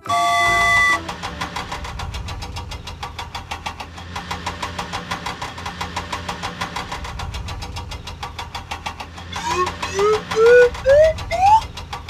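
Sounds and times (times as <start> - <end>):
cartoon engine chugging: 0.0 - 12.0.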